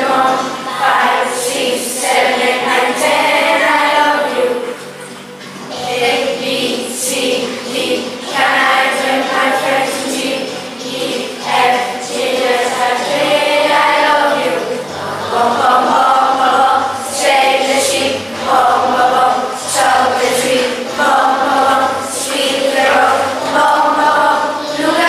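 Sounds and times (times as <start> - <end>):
backing music: 0.0 - 25.0
children singing in chorus: 0.0 - 25.0.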